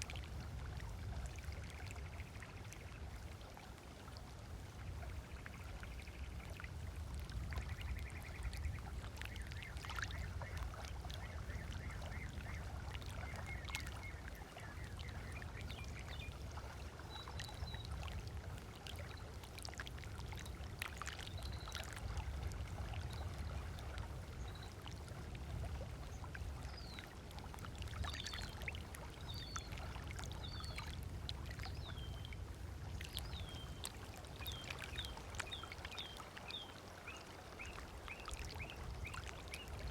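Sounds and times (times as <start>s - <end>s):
low steady rumble: 0.0s - 36.2s
small waves lapping on shore: 0.0s - 39.9s.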